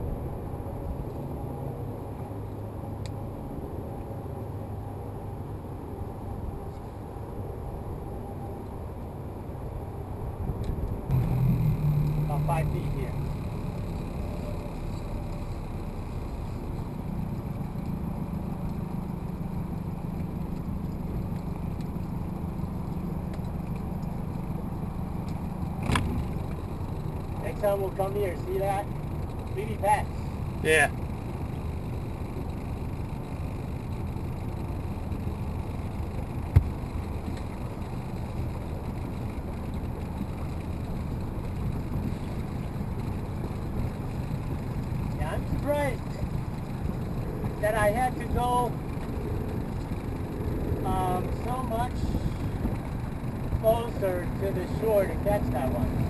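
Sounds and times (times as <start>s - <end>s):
motorboat engine running: 11.1s - 56.0s.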